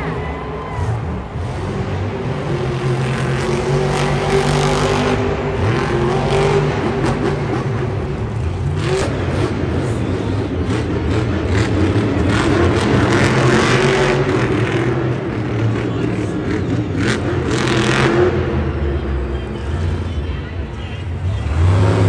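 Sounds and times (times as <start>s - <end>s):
monster truck engine revving: 0.0s - 20.2s, 21.1s - 22.0s.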